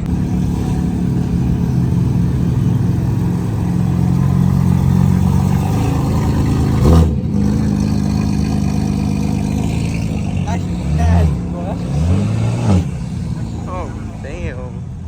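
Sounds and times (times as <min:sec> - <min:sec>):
car engine running: 0:00.0 - 0:15.0
engine revving: 0:00.0 - 0:15.0.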